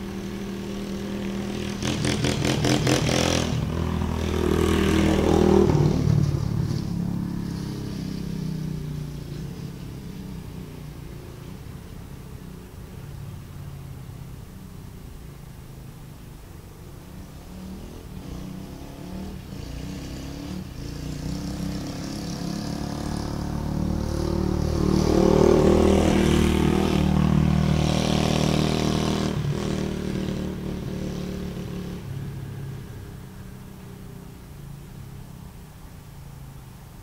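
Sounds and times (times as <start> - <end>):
dirt bike engine passing: 0.0 - 14.8, 17.1 - 36.6.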